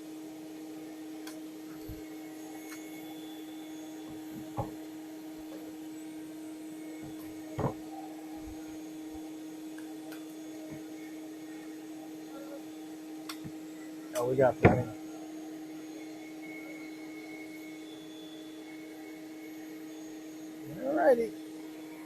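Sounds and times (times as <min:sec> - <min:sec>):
vacuum motor humming: 0:00.0 - 0:22.0.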